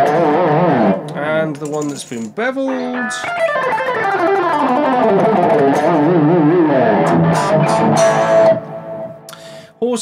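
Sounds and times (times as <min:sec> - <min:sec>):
electric guitar picked notes: 0:00.0 - 0:01.2, 0:02.6 - 0:09.5.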